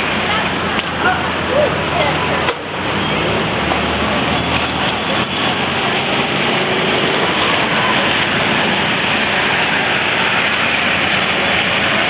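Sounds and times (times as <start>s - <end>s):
cyclists riding: 0.0s - 12.0s
traffic: 0.0s - 12.0s.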